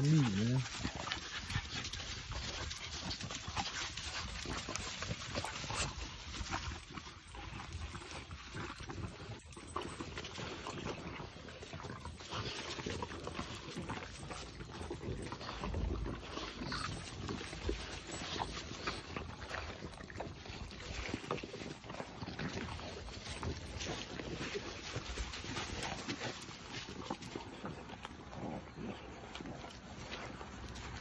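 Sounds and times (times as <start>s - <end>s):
puppies chewing: 0.0s - 31.0s.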